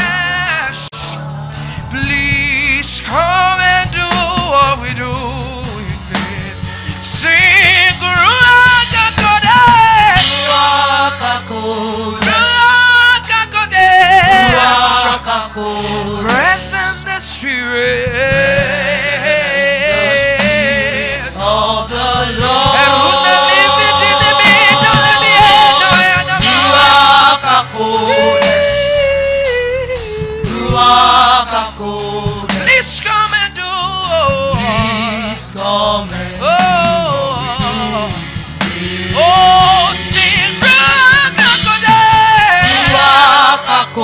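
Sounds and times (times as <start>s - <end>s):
singers performing gospel song: 0.0s - 44.0s.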